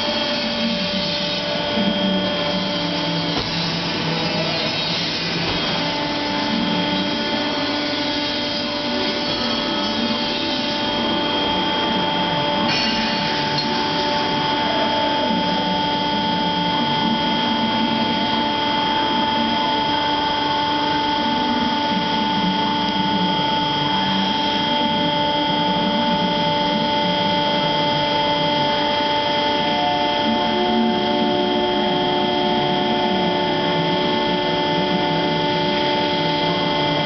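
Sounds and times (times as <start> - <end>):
combustion machine noise with whining tones: 0.0 - 37.0.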